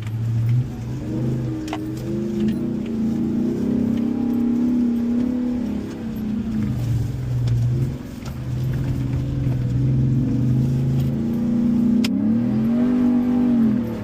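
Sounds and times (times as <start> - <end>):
light rattles and clicks: 0.0 - 12.1
truck engine under throttle: 0.0 - 14.0.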